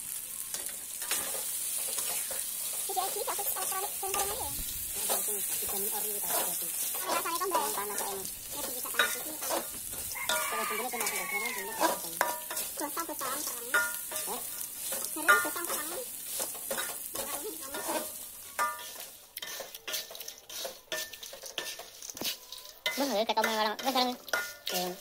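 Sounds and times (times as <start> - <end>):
oil sizzling in wok: 0.0 - 25.0
metal spatula scraping wok: 0.1 - 25.0.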